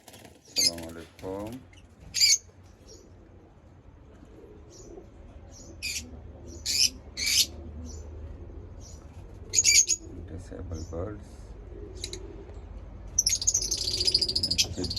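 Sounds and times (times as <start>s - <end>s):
lovebirds chirping: 0.1s - 3.3s, 4.4s - 14.9s.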